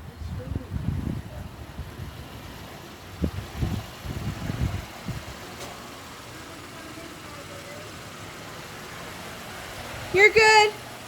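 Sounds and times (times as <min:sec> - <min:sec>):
car engine running at low speed: 0:00.0 - 0:11.0
low rumbles: 0:00.0 - 0:11.0.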